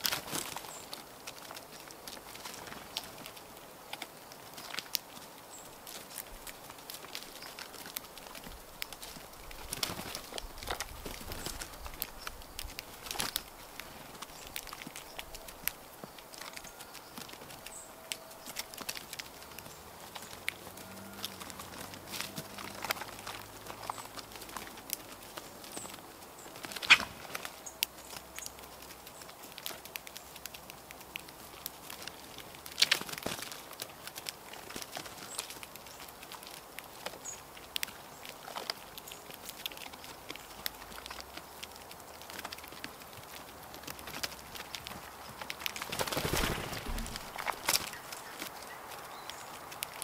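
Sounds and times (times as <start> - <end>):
birds pecking in dry leaves: 0.0 - 50.0.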